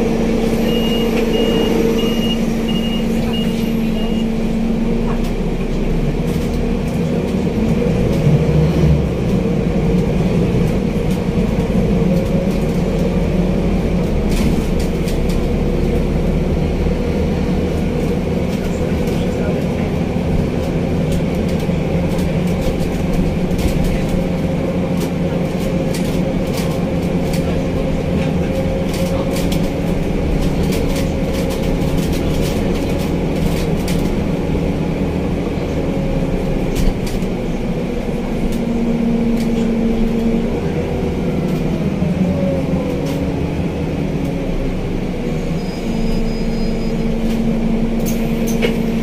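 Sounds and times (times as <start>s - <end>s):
bus engine drone and whine: 0.0s - 49.0s.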